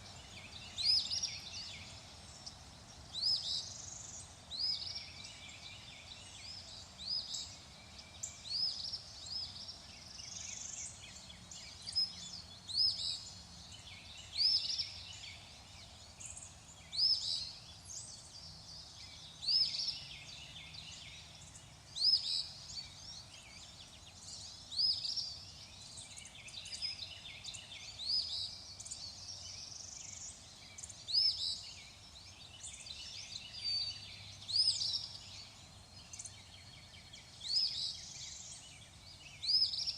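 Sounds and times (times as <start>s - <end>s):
birds chirping: 0.0s - 39.9s
faint steady hiss: 0.0s - 39.9s.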